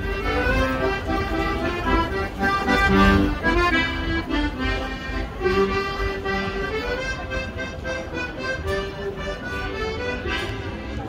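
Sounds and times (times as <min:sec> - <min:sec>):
accordion playing a tune: 0:00.0 - 0:11.0.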